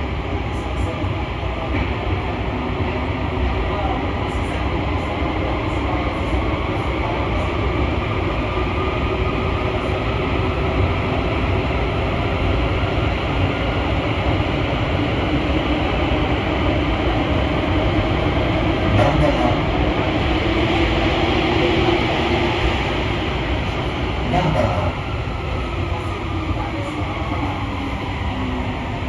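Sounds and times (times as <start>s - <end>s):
train rumbling inside car: 0.0s - 29.0s.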